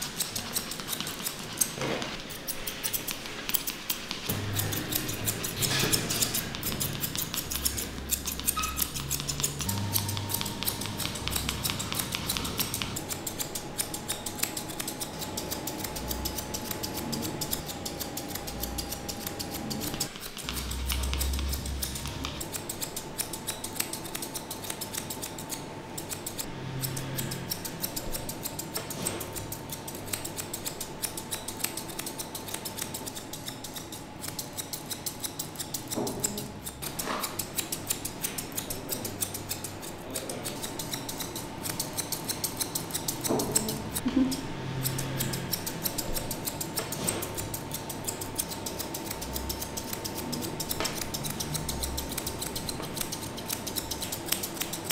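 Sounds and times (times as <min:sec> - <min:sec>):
scissors snipping hair: 0:00.0 - 0:54.9.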